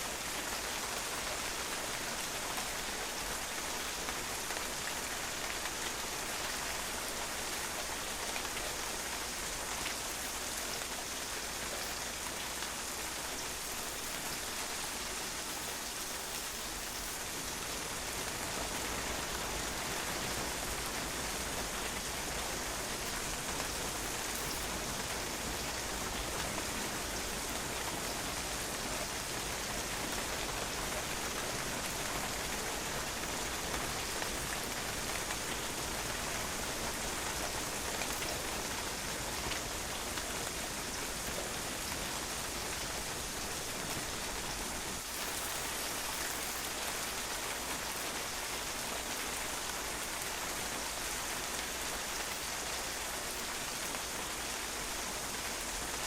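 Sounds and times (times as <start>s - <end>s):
rain splashing on a patio: 0.0s - 56.0s.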